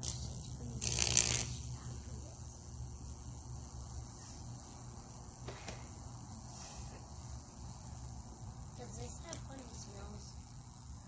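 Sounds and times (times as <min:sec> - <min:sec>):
electric current burning wood hiss: 0:00.0 - 0:11.0.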